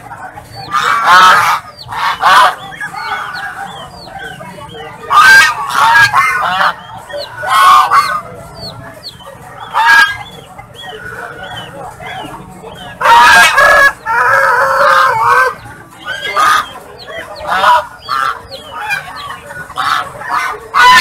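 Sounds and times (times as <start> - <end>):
waterfowl honking: 0.0 - 21.0.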